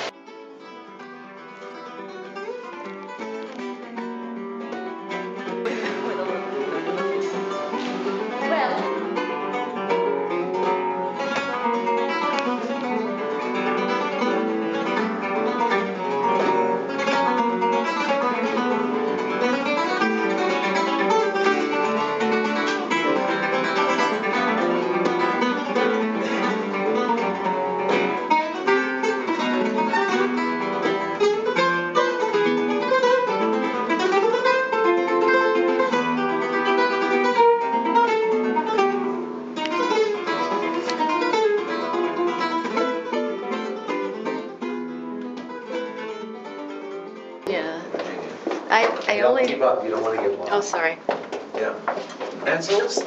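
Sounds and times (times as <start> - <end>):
acoustic guitar plucked notes: 0.0 - 51.1.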